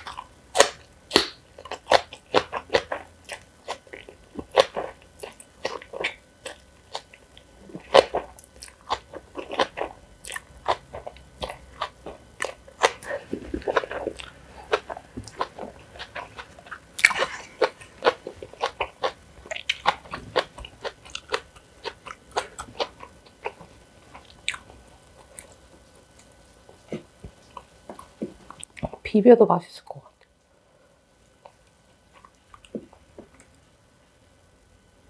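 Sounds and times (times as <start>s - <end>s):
crunchy chewing: 0.0s - 29.0s, 31.2s - 33.6s.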